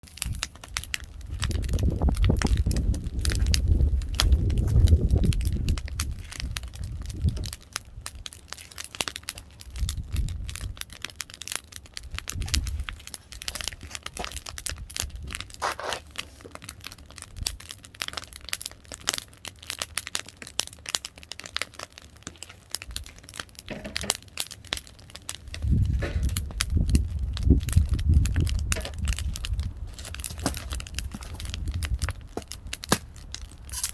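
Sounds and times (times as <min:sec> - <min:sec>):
firewood crackling and popping: 0:00.0 - 0:33.9.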